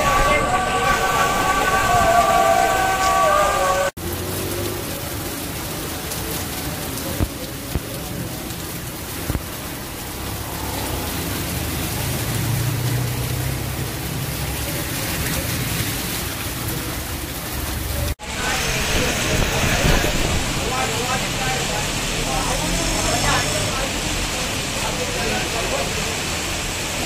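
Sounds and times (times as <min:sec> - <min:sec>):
heavy rain on flooded street: 0:00.0 - 0:27.0.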